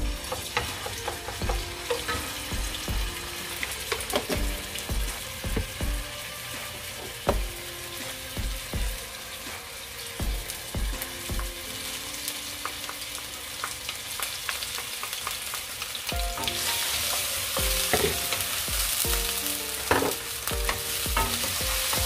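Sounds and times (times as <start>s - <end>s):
background music with steady beat: 0.0s - 13.7s, 16.1s - 22.0s
garlic sizzling in hot oil: 0.0s - 22.0s.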